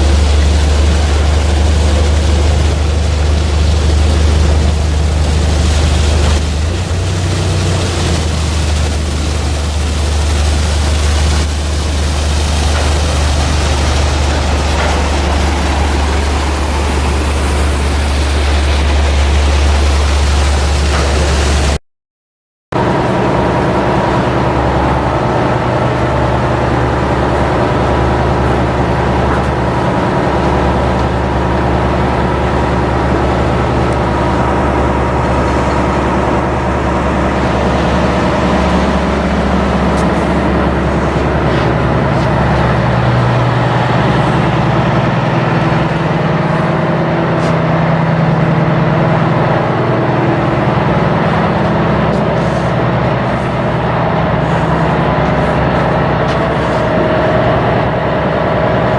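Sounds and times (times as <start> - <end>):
diesel engine drone: 0.0 - 21.8, 22.7 - 58.9.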